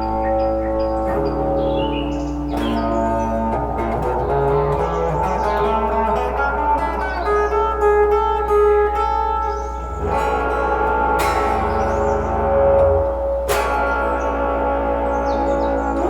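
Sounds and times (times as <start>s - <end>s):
electric guitar notes and chords: 0.0s - 16.0s
steady low hum: 0.0s - 16.0s.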